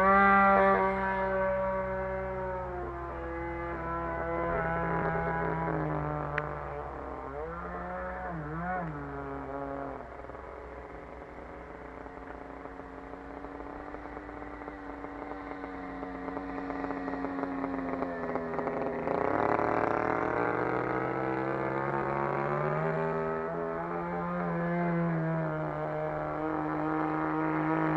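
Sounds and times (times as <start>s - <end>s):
model plane engine running: 0.0s - 27.9s.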